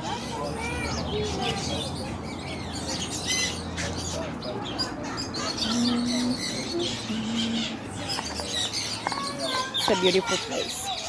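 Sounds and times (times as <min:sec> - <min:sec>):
parrots chirping and squawking: 0:00.1 - 0:11.0.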